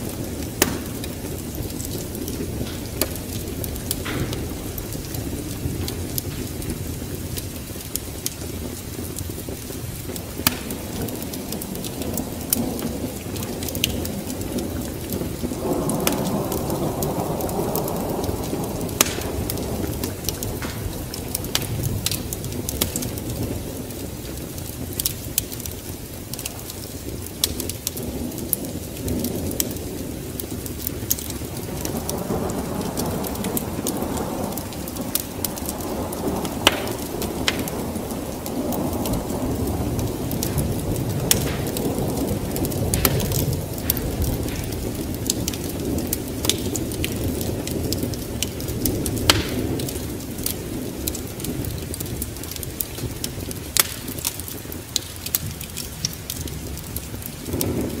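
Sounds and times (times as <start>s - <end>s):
rain: 0.0s - 58.0s
rolling thunder: 0.0s - 58.0s
wood fire crackling: 0.0s - 58.0s.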